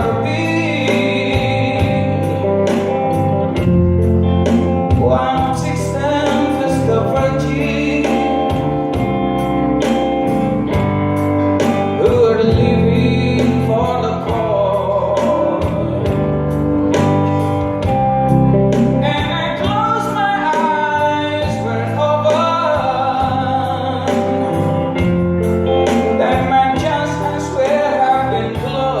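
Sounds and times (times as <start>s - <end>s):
band playing: 0.0s - 29.0s
person singing: 0.0s - 29.0s.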